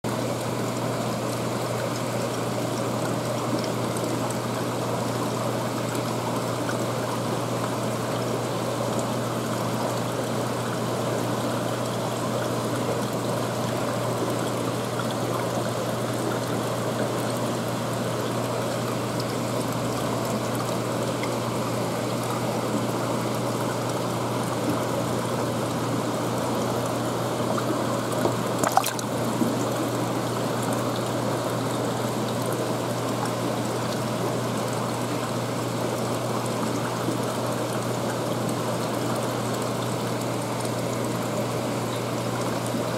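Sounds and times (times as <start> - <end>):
water trickling through tank: 0.1 - 42.9.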